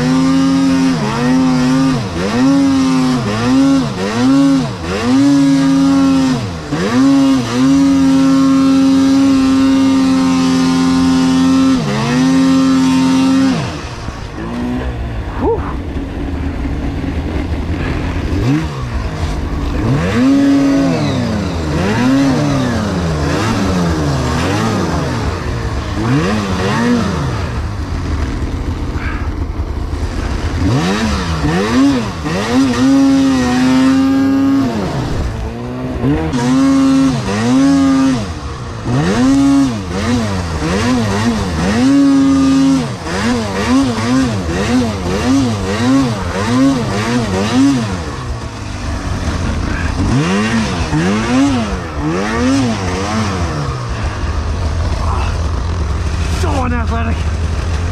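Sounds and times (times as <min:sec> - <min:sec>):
snowmobile engine revving: 0:00.0 - 0:57.9.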